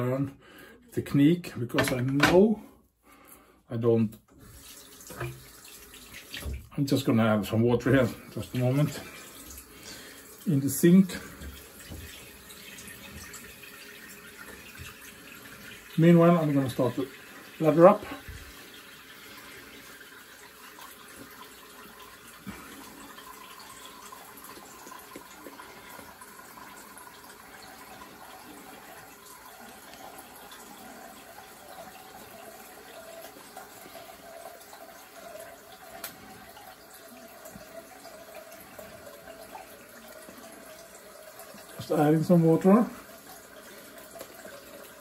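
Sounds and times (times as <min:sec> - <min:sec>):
tap water running into sink: 0:01.8 - 0:02.5, 0:04.2 - 0:45.0.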